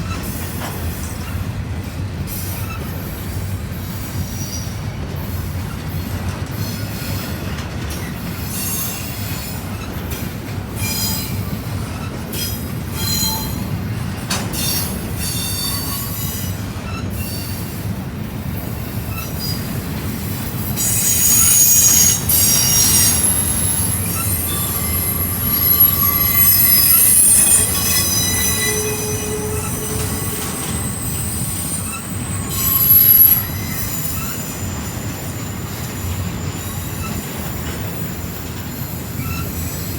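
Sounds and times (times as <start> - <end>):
train wheels rumbling on rail: 0.0 - 39.9
shrill wheel squeal: 3.8 - 4.8, 6.6 - 10.2, 10.8 - 18.0, 18.8 - 39.9.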